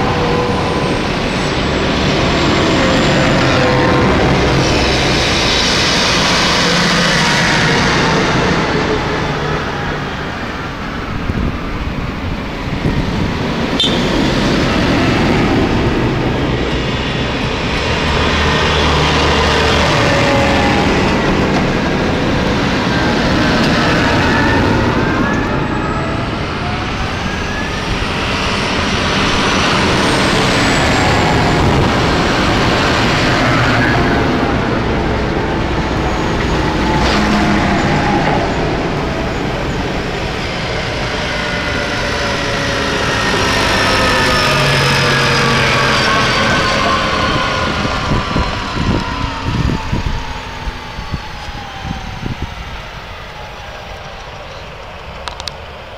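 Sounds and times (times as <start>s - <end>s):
tractor diesel engines: 0.0s - 55.9s.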